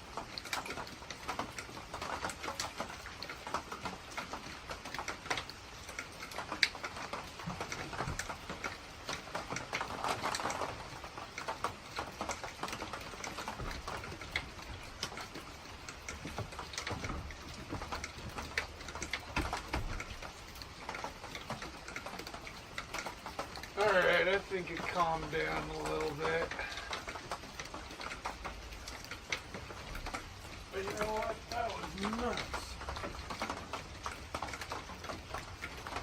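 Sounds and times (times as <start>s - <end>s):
rain hiss: 0.0s - 36.0s
raindrops ticking: 0.0s - 36.0s.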